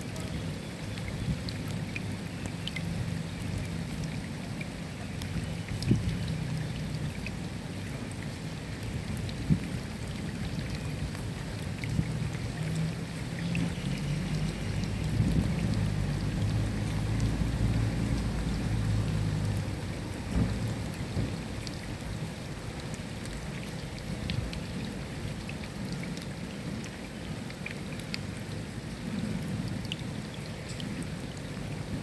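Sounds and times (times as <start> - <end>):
drips ticking: 0.0 - 31.8
steady rain: 0.0 - 32.0.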